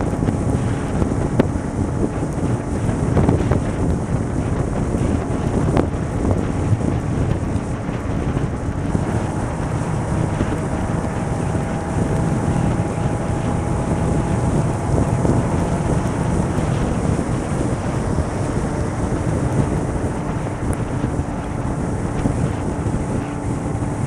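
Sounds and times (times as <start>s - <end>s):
motorcycle engine whine: 0.0s - 24.0s
wind rushing over microphone: 0.0s - 24.0s.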